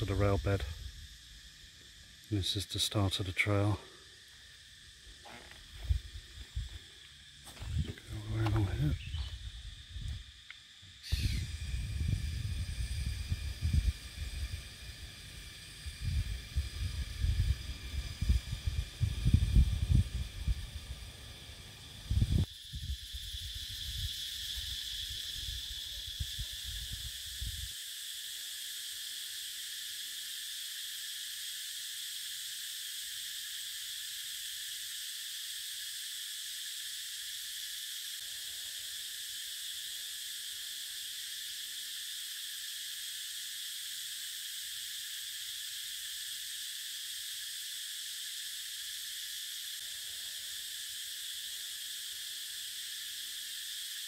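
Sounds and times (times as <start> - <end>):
insect chorus droning: 0.0 - 54.0.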